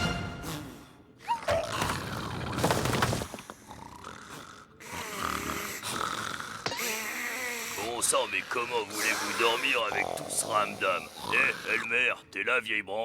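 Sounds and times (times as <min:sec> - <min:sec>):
cartoon snoring: 0:00.3 - 0:02.6, 0:03.5 - 0:11.9.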